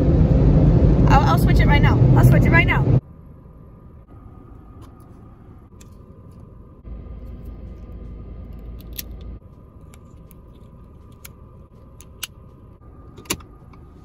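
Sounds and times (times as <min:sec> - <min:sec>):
faint steady hum: 0:00.0 - 0:14.0
low rumble: 0:00.0 - 0:14.0.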